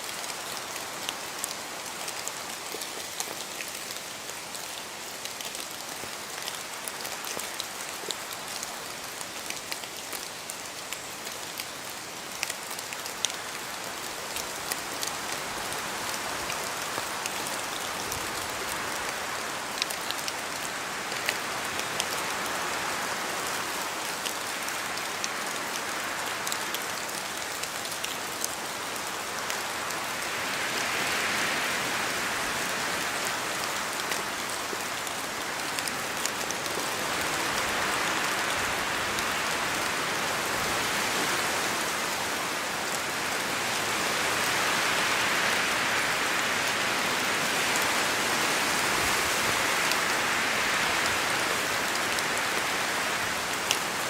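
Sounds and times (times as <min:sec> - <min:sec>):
steady rain in a forest: 0:00.0 - 0:54.0.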